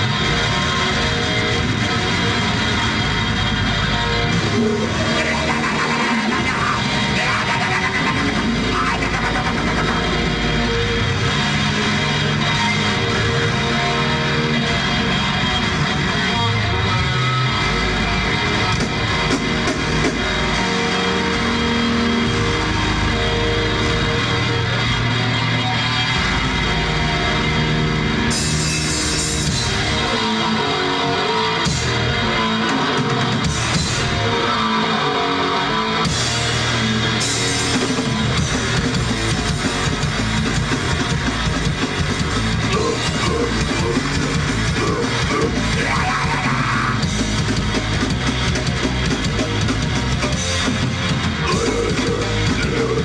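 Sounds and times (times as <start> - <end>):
distorted electric guitar: 0.0 - 53.0
heavy rock band playing: 0.0 - 53.0.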